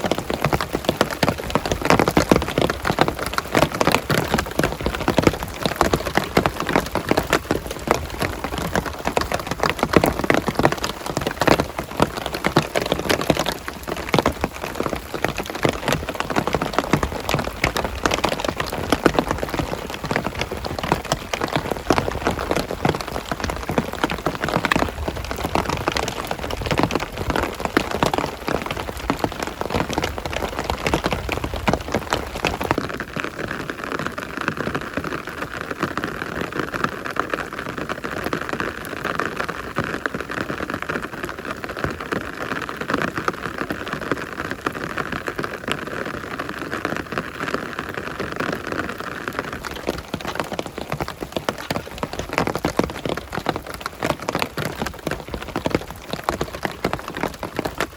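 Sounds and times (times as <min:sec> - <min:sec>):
heavy rain pattering: 0:00.0 - 0:57.9.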